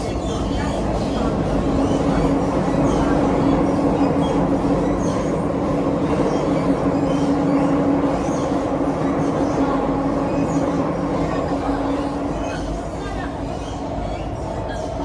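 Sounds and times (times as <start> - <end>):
constant hum: 0.0 - 15.0
train wheels rumbling on rail: 0.0 - 15.0.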